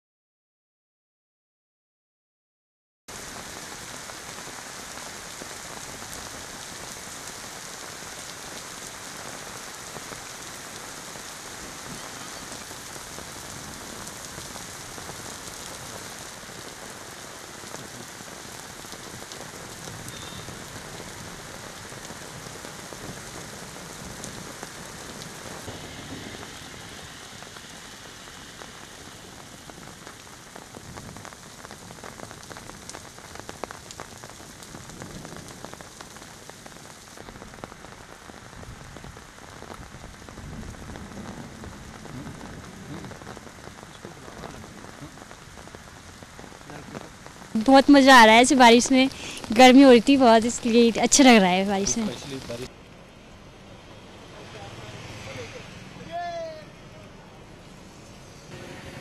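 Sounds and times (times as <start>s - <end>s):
heavy rain on pavement: 3.1s - 59.0s
raindrop splats: 3.2s - 53.4s.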